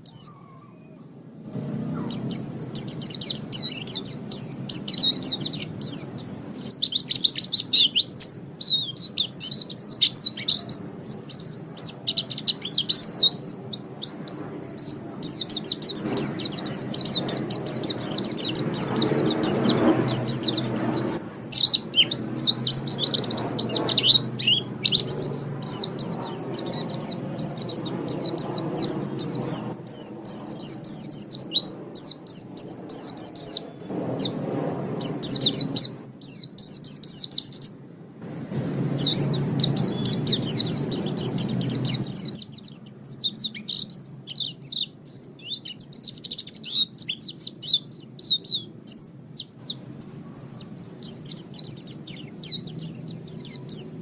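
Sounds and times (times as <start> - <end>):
bird twittering song: 0.0 - 54.0
low background rumble: 0.1 - 54.0.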